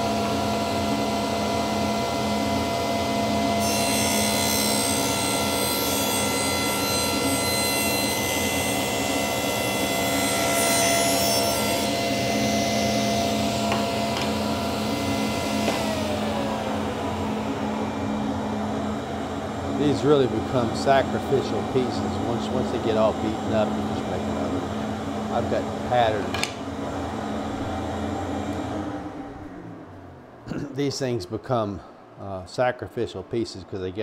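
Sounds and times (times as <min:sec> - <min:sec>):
table saw motor hum: 0:00.0 - 0:30.4.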